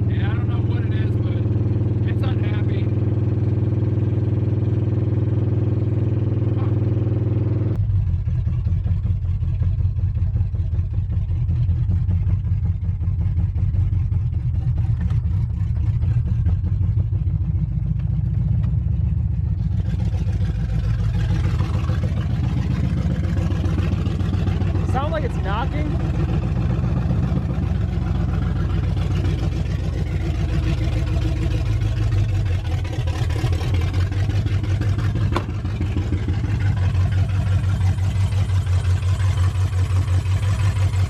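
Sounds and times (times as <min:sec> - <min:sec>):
truck engine running roughly: 0:00.0 - 0:41.0.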